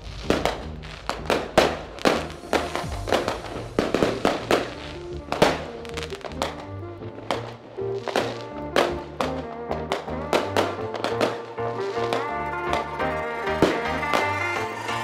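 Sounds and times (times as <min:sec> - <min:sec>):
fireworks banging and crackling: 0:00.0 - 0:15.0
music with steady bass line: 0:00.0 - 0:15.0.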